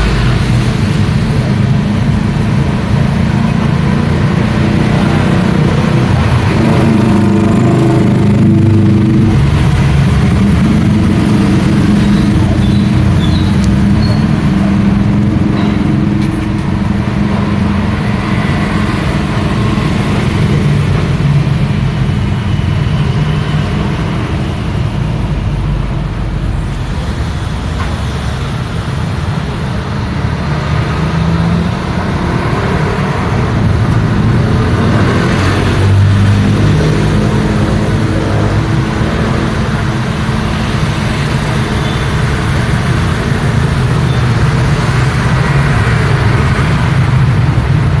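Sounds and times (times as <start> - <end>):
loud vehicle passing: 0.0 - 48.0
traffic engines and tyre noise: 0.0 - 48.0.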